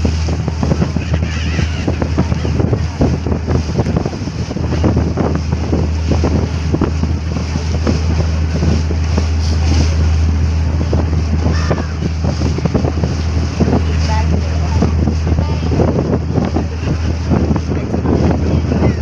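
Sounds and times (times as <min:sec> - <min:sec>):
sea water rushing past hull: 0:00.0 - 0:19.0
wind buffeting microphone: 0:00.0 - 0:19.0.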